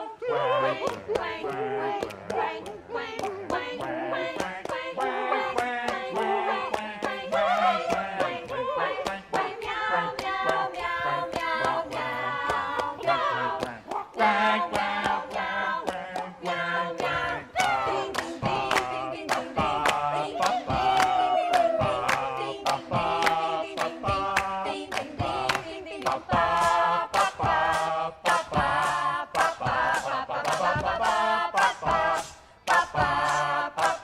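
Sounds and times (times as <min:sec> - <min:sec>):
voices singing a cappella: 0:00.0 - 0:34.0.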